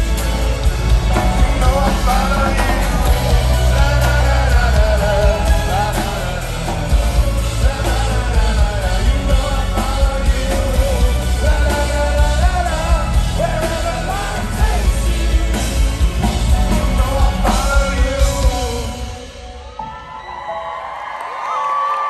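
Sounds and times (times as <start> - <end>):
live rock band playing: 0.0 - 20.2
loud drums: 0.0 - 20.2
lead singer's voice: 0.0 - 20.6.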